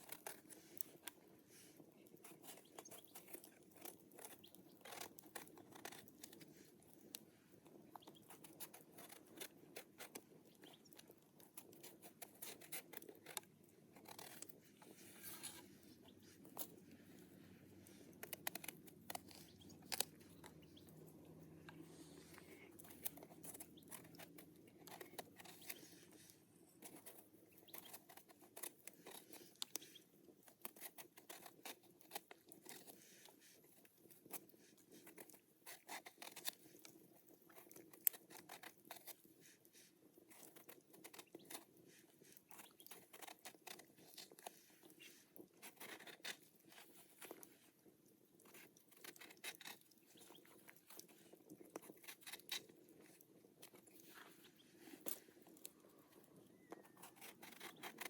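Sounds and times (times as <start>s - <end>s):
food clicks and crunches: 2.0s - 26.2s, 26.8s - 39.3s, 40.0s - 58.0s.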